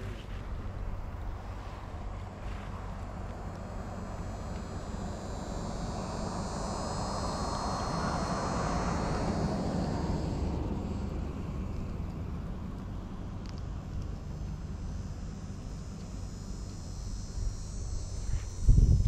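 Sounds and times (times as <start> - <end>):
distant engine passing by: 0.0 - 18.2
insects buzzing: 0.0 - 19.0.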